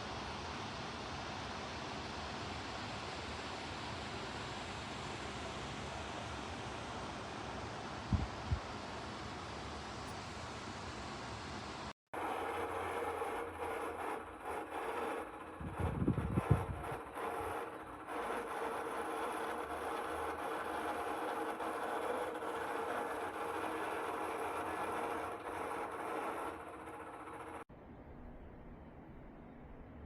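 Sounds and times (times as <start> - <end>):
fan rushing air: 0.0 - 30.0.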